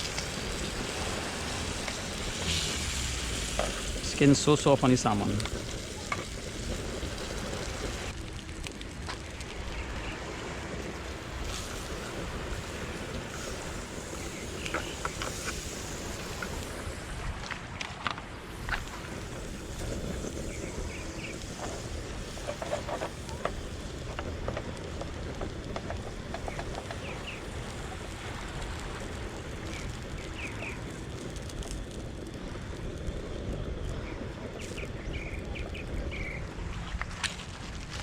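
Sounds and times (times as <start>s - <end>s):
fish sizzling in a pan: 0.0s - 17.3s, 18.4s - 32.1s.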